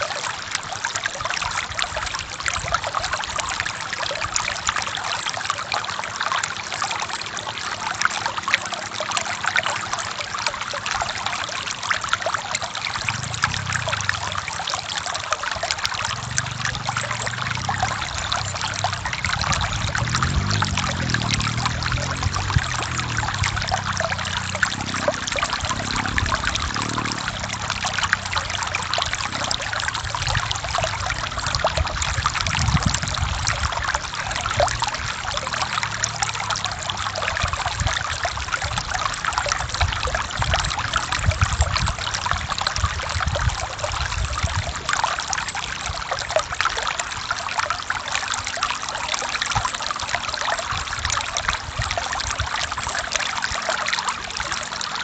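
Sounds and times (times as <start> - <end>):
small waterfall rumbling: 0.0 - 55.0
stream flowing over rocks: 0.0 - 55.0.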